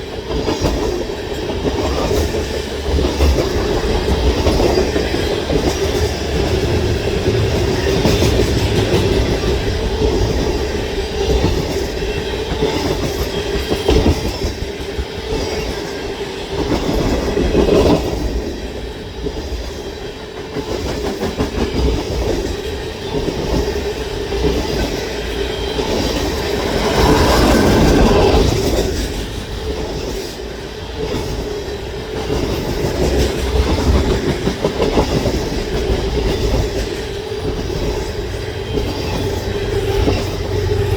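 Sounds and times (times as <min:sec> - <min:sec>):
freight train rumbling past: 0:00.0 - 0:40.9.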